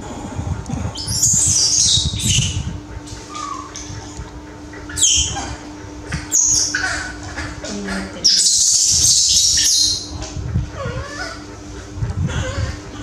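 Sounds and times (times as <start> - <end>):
baby monkey screaming: 0.9 - 11.5, 12.2 - 13.0.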